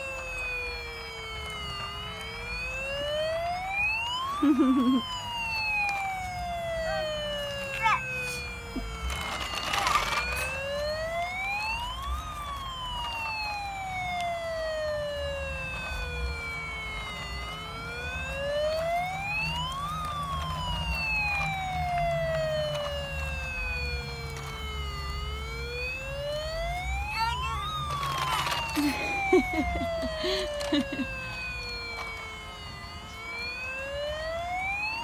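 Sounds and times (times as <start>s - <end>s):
toy siren wailing: 0.0s - 35.0s.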